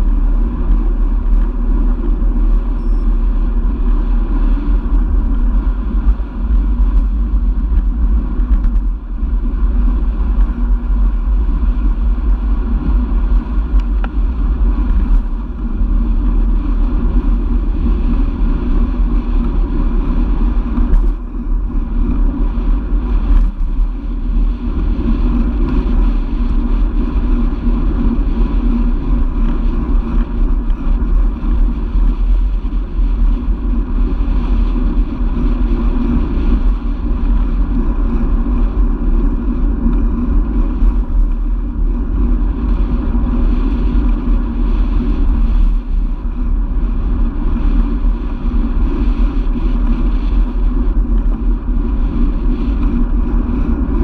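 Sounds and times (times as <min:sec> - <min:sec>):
road noise from bike: 0:00.0 - 0:54.0
wind rumble: 0:00.0 - 0:54.0.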